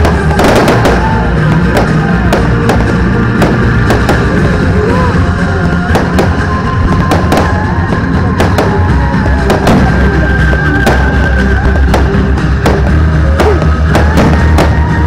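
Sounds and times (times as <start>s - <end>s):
fireworks bursting: 0.0s - 15.0s
loud music with heavy bass: 0.0s - 15.0s.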